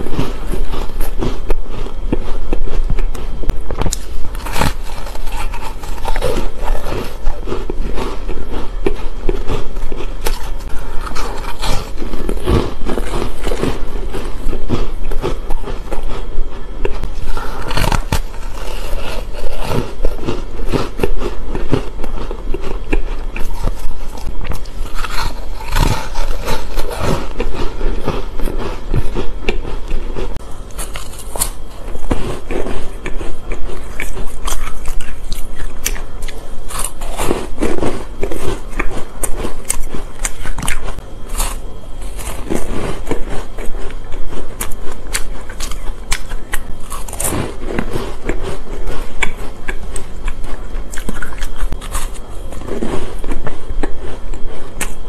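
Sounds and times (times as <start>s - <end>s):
chewing and crunching ice: 0.0s - 55.0s
steady low hum: 0.0s - 55.0s.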